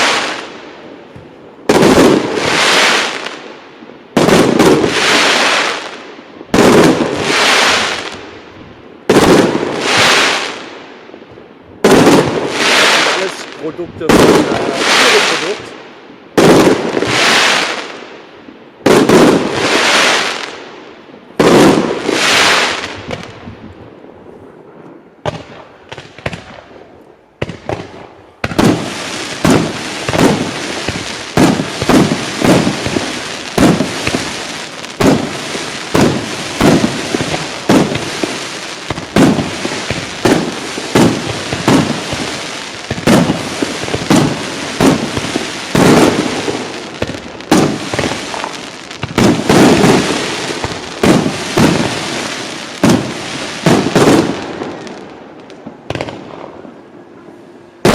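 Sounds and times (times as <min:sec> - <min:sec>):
firework bursts: 0:00.0 - 0:03.5, 0:04.1 - 0:08.4, 0:09.0 - 0:10.9, 0:11.8 - 0:18.2, 0:18.8 - 0:20.8, 0:21.4 - 0:23.6, 0:25.2 - 0:56.7
firework crackling: 0:00.0 - 0:08.4, 0:09.0 - 0:10.9, 0:11.8 - 0:18.2, 0:18.8 - 0:23.5, 0:27.4 - 0:56.7.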